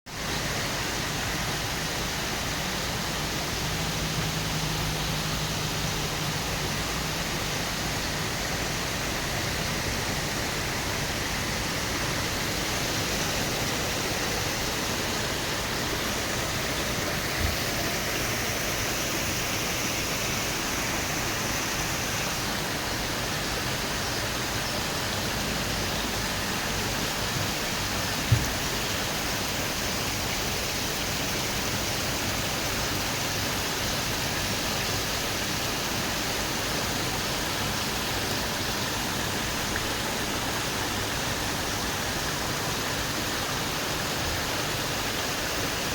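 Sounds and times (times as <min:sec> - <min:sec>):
waterfall roaring: 0:00.1 - 0:45.9.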